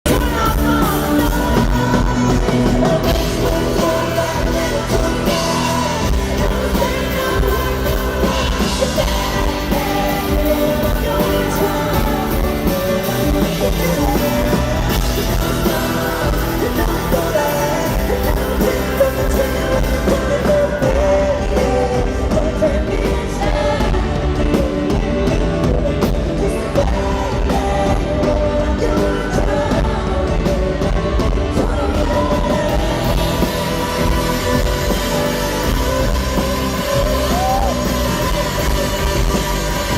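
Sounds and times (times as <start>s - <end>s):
live country rock band: 0.0s - 39.9s
woman singing: 0.0s - 39.9s.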